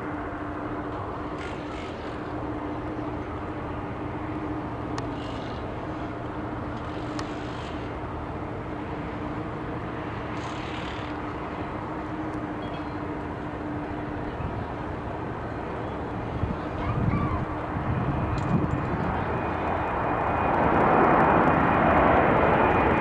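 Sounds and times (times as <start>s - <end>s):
jet engines at takeoff thrust: 0.0s - 23.0s.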